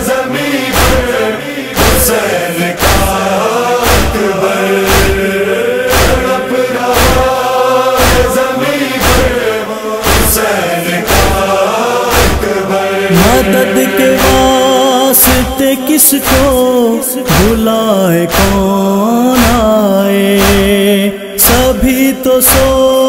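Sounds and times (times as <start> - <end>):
chorus chanting mournful melody: 0.0 - 23.0
steady heavy beat: 0.0 - 23.0.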